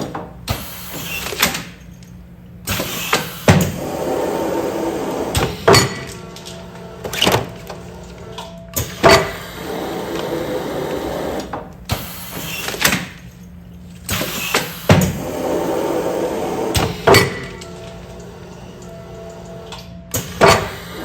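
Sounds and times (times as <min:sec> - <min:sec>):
machine humming: 0:01.9 - 0:21.0.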